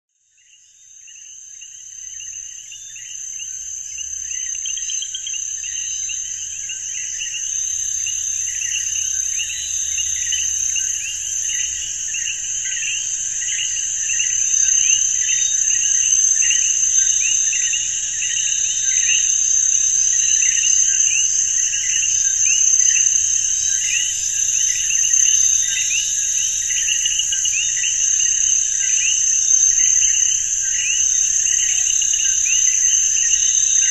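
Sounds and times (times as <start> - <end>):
insects chirping pulse: 0.3 - 33.9
insects shrill trill: 1.2 - 33.9.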